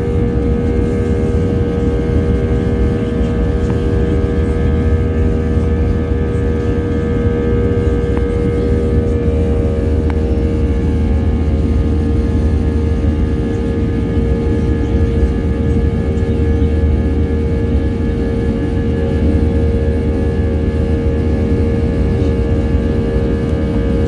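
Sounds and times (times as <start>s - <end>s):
airliner engine and airflow rumble: 0.0s - 24.0s
constant multi-tone hum: 0.0s - 24.0s.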